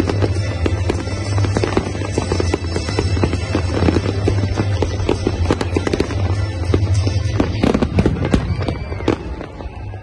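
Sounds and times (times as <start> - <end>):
fireworks bursting: 0.0 - 10.0
music playing: 0.0 - 10.0.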